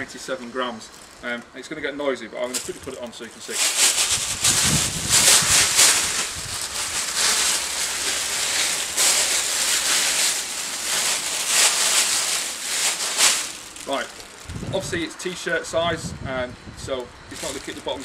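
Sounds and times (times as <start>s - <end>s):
poncho fabric crinkling: 0.0s - 1.5s, 2.4s - 14.9s, 17.3s - 18.0s.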